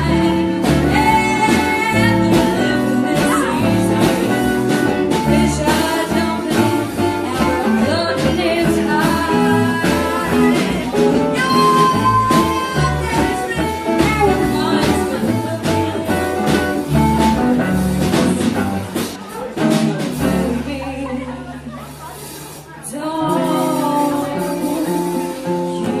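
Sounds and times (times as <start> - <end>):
person singing: 0.0 - 19.0, 22.9 - 26.0
bass line: 0.0 - 22.0
guitar: 0.0 - 26.0.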